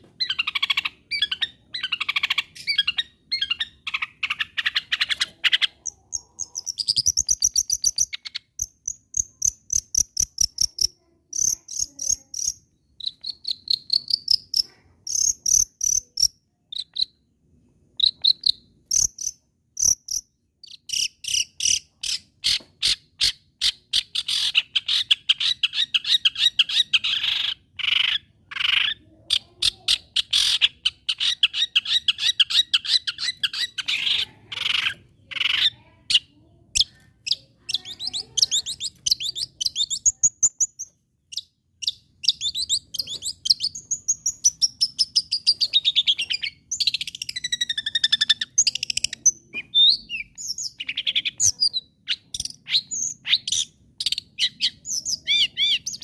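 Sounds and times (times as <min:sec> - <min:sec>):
bird chattering song: 0:00.0 - 0:17.2, 0:18.0 - 0:56.0.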